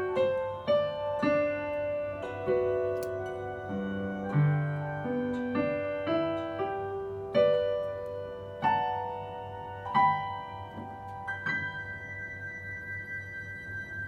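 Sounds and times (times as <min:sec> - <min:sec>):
slow piano notes: 0:00.0 - 0:14.0.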